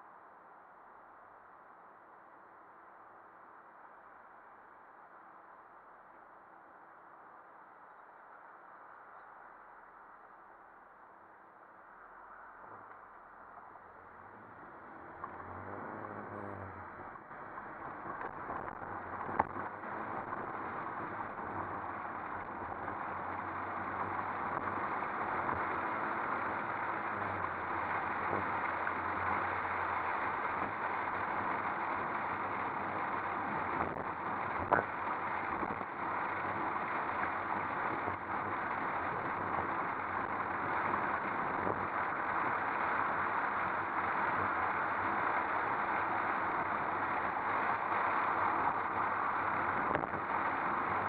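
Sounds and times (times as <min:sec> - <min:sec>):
wind and road noise: 0:06.9 - 0:51.0.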